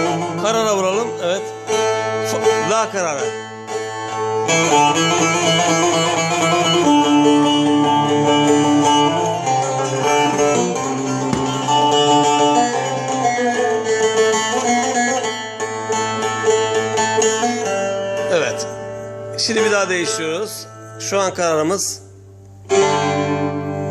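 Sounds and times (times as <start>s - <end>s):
long-necked lute melody: 0.0s - 23.9s.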